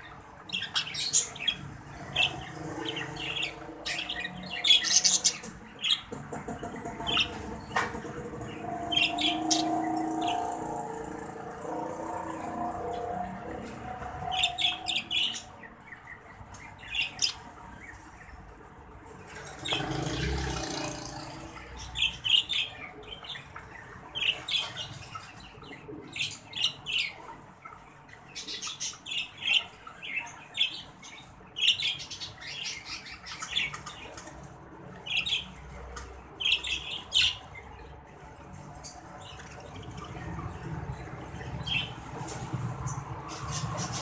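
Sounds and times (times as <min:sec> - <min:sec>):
budgerigars chirping and chattering: 0:00.0 - 0:11.8, 0:12.4 - 0:18.5, 0:19.2 - 0:37.9, 0:38.8 - 0:44.0.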